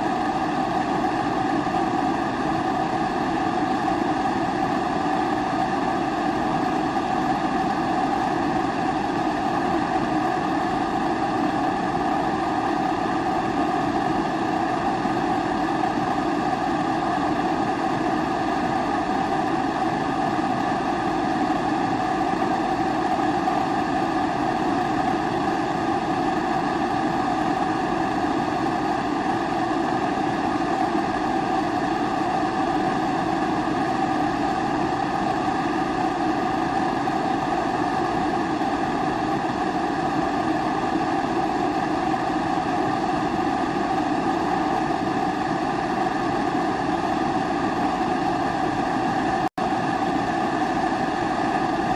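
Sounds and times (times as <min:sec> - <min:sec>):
kerosene stove flame rushing: 0:00.0 - 0:51.9.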